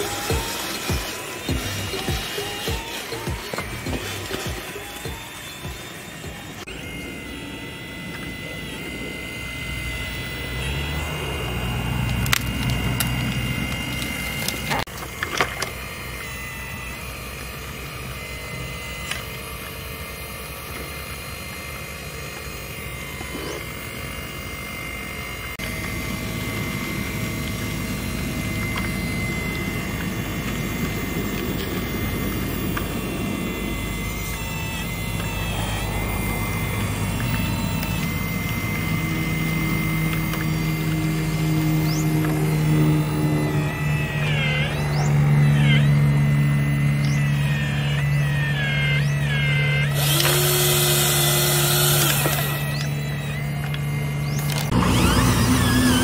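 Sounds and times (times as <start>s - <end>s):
hydraulic pump whine: 0.0s - 56.0s
low hum: 0.0s - 56.0s.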